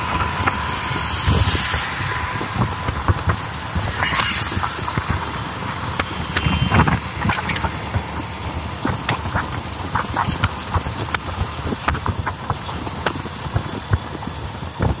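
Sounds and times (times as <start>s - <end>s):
motorbike engine hum: 0.0s - 15.0s
wind and road noise: 0.0s - 15.0s.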